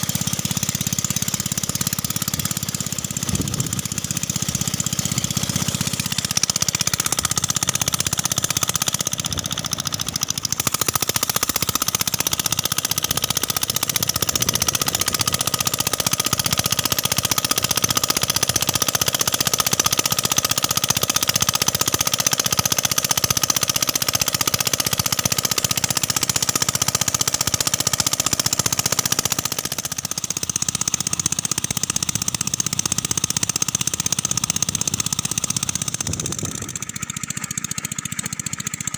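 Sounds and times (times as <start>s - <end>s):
diesel engine knocking: 0.0s - 38.9s.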